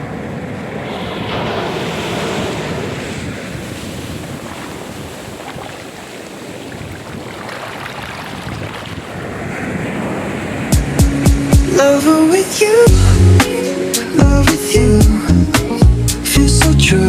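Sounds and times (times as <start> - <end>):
waves breaking: 0.0 - 16.4.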